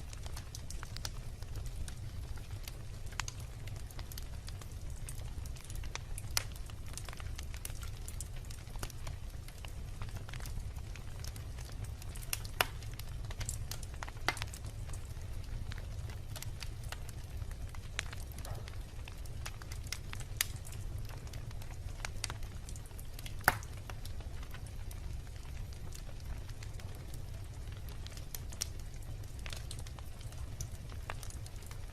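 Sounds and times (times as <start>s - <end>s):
bonfire crackling and popping: 0.0s - 31.9s.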